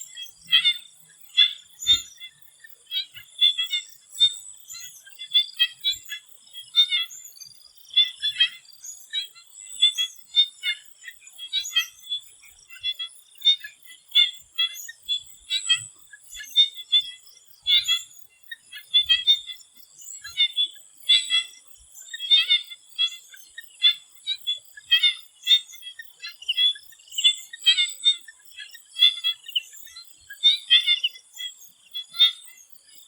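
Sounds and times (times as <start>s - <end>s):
frogs calling high-pitched: 0.0s - 33.0s.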